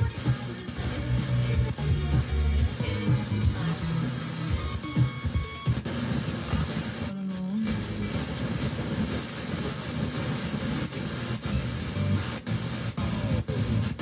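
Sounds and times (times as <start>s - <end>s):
bass-heavy music through small speaker: 0.0s - 14.0s.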